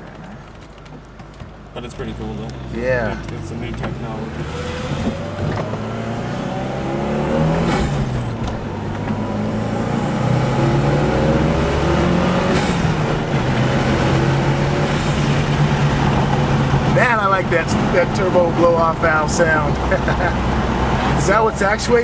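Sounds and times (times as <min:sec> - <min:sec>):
turbo car engine accelerating: 0:01.7 - 0:22.0.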